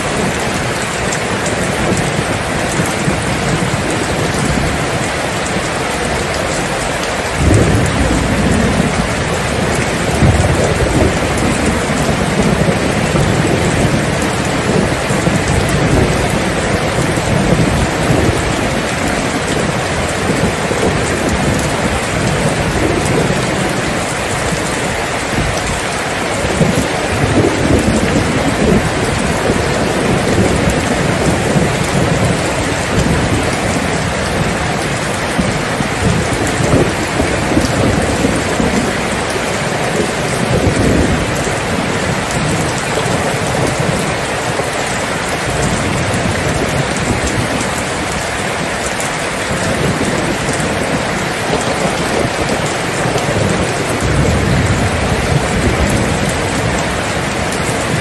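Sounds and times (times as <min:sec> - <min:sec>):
rolling thunder: 0:00.0 - 0:48.3, 0:48.9 - 0:58.0
steady rain falling: 0:00.0 - 0:58.0.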